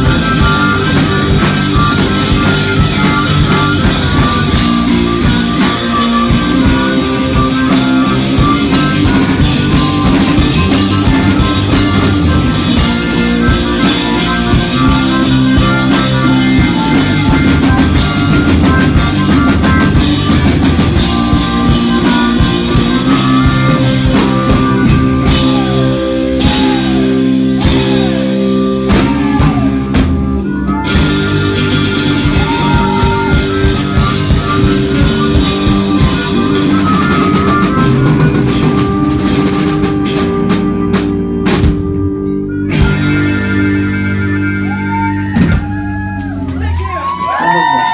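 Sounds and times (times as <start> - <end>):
sliding guitar notes: 0.0 - 46.8
live rock band playing: 0.0 - 47.9.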